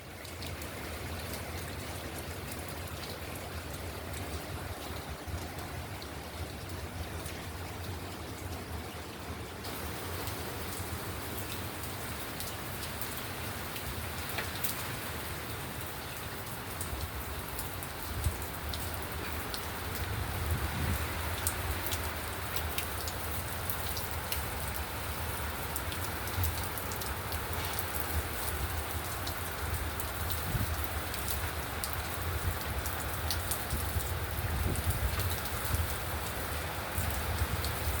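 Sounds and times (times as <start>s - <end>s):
raindrops ticking on a surface: 0.0s - 38.0s
steady rain falling: 0.0s - 38.0s.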